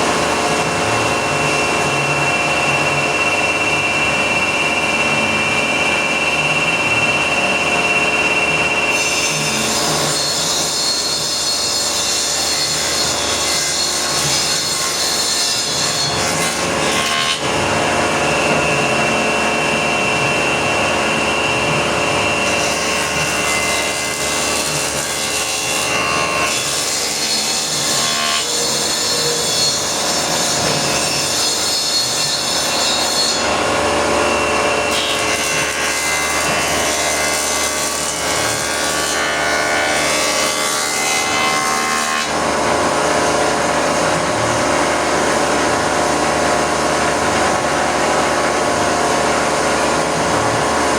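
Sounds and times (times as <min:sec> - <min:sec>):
planer whine: 0:00.0 - 0:50.9.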